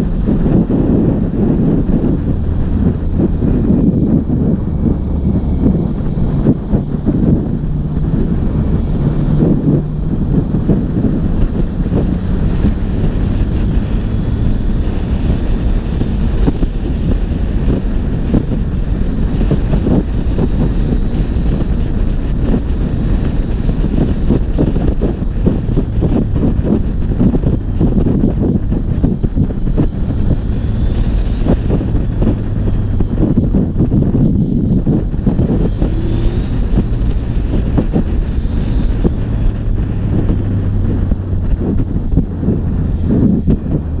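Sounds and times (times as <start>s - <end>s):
motorcycle engine drone: 0.0s - 44.0s
wind buffeting microphone: 0.0s - 44.0s.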